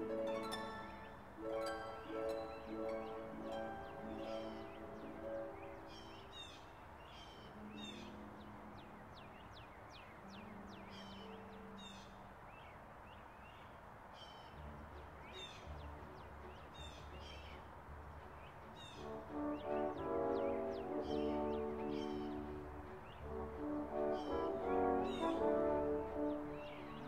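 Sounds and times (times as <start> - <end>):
faint orchestral music: 0.0 - 27.0
songbirds chirping: 0.0 - 27.0.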